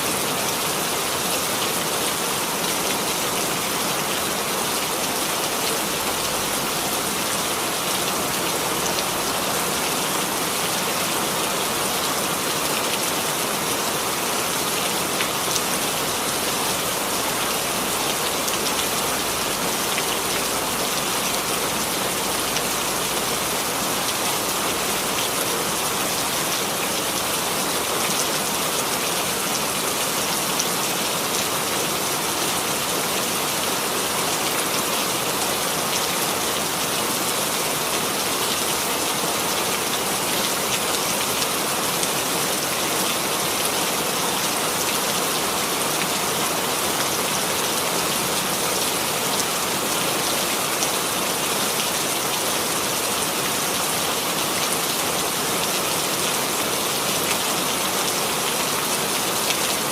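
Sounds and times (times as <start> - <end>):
rain hissing and pattering: 0.0 - 59.9.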